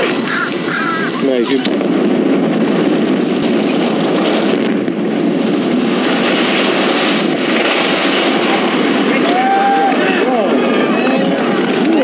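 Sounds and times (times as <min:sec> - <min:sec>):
falling masonry rumble: 0:00.0 - 0:12.0.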